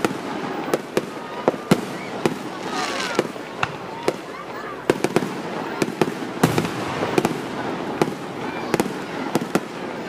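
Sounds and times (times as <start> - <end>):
firework bangs: 0.0 - 10.0.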